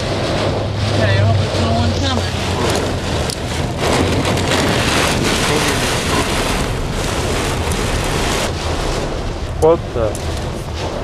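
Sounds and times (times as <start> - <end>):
heavy rain on car roof: 0.0 - 11.0
wind noise: 0.0 - 11.0.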